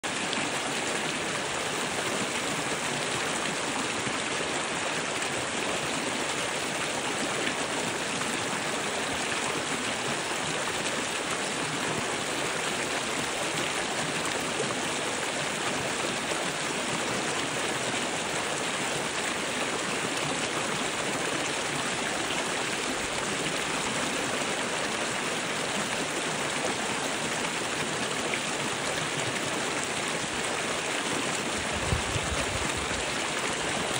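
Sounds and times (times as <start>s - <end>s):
stream rushing over boulders: 0.0s - 33.9s.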